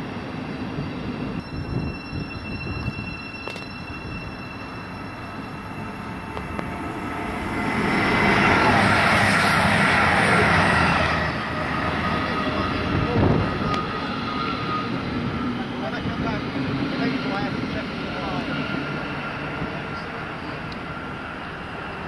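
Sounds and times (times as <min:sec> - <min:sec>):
diesel train passing at speed: 0:00.0 - 0:22.0.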